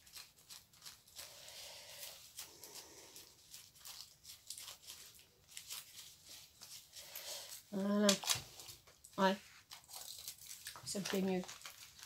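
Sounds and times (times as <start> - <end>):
latex gloves rustling and crackling: 0.0 - 12.0.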